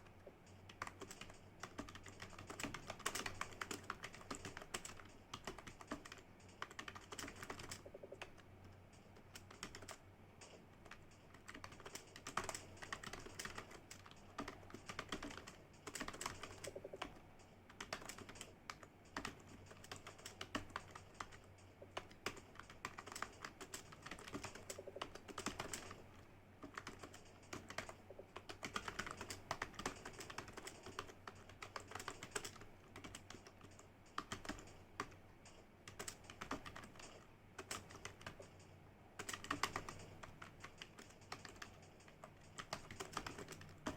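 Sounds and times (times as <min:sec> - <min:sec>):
faint steady hum: 0:00.0 - 0:43.9
keyboard typing: 0:00.0 - 0:43.9.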